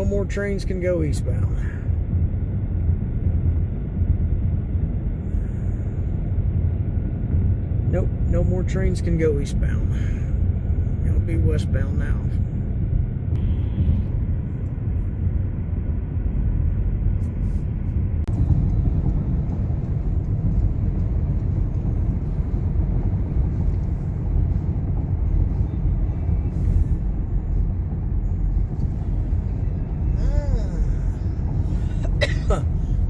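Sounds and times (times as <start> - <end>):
low vehicle rumble: 0.0 - 33.0.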